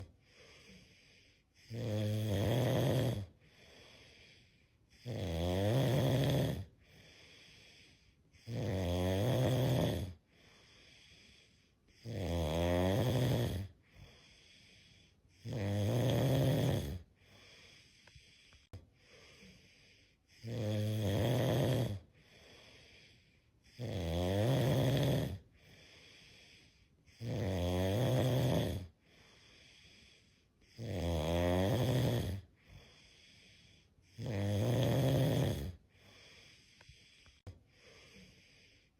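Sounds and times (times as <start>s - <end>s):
cat snoring: 0.0s - 18.4s, 19.1s - 37.2s.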